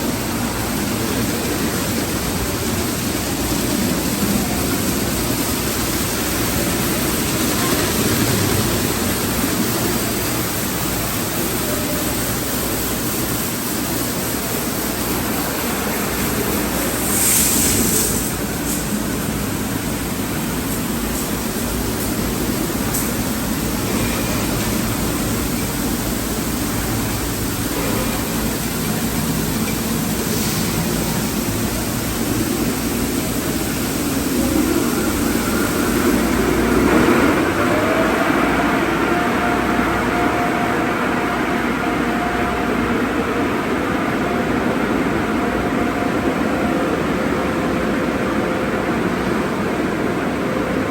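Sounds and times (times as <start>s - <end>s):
water spray rushing: 0.0s - 42.4s
loud hiss: 0.0s - 43.1s
car wash machinery: 0.0s - 50.9s.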